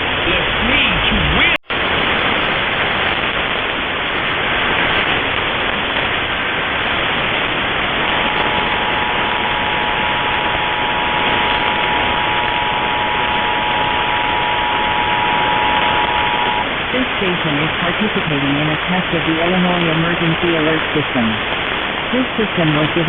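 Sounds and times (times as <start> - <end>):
radio static and hiss: 0.0 - 23.0.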